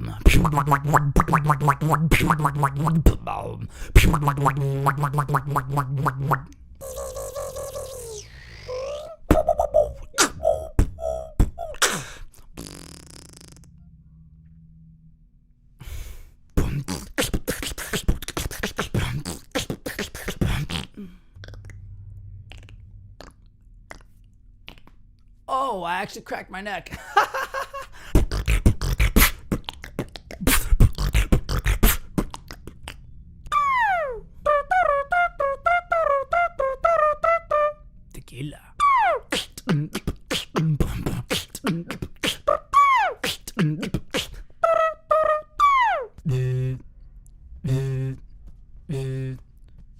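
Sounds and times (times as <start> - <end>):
beatboxing: 0.0 - 13.8, 16.6 - 21.8, 22.5 - 25.0, 28.1 - 37.8, 38.6 - 46.9, 47.6 - 49.6
low held hum: 0.0 - 49.9.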